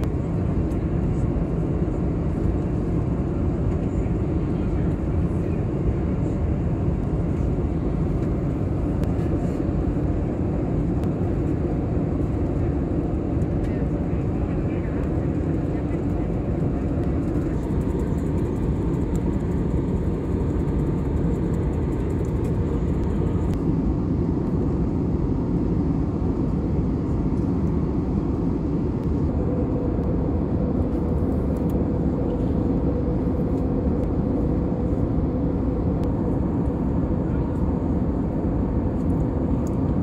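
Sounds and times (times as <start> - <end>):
aircraft cabin drone: 0.0 - 40.0.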